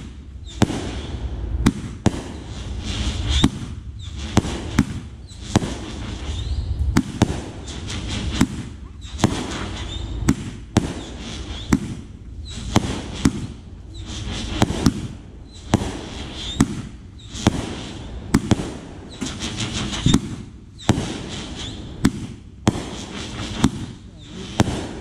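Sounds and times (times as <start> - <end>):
fireworks bangs: 0.0 - 25.0
fireworks hissing and crackling: 0.0 - 25.0.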